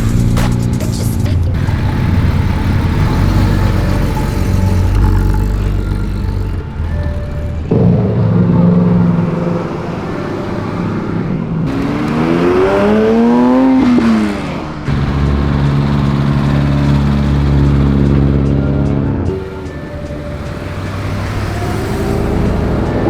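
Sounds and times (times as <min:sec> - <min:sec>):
car engines running: 0:00.0 - 0:23.0
engine revving: 0:00.0 - 0:23.0.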